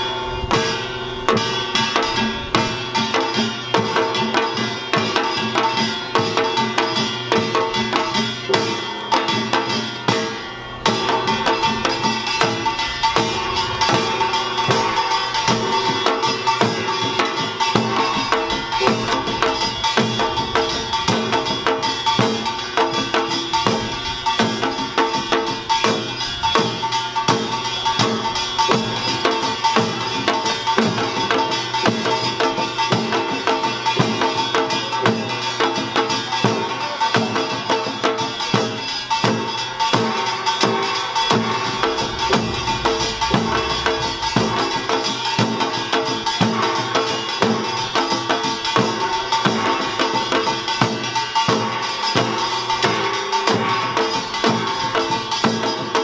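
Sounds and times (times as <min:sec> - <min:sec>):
hourglass drums: 0:00.0 - 0:56.0
ringing gong tone: 0:00.0 - 0:56.0
small gong: 0:00.0 - 0:56.0
barrel drums: 0:00.4 - 0:56.0.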